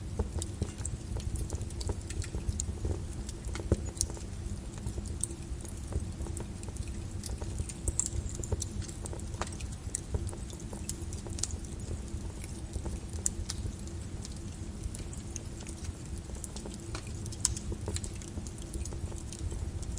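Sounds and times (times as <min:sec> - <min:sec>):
lava flow crackling: 0:00.0 - 0:19.9.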